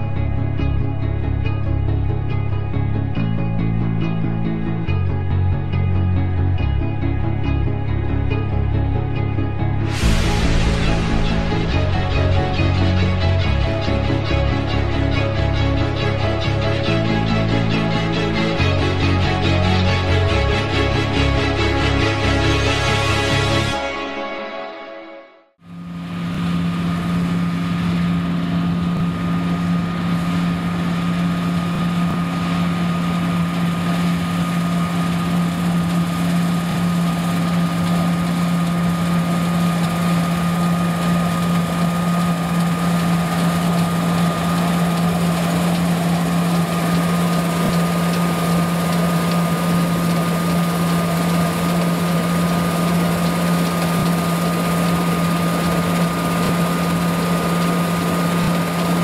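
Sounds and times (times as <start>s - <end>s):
combine harvester droning: 9.8s - 59.0s.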